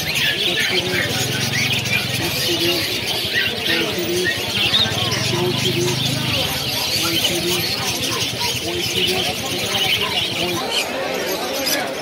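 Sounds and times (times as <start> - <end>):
birds chirping and whistling: 0.0 - 12.0.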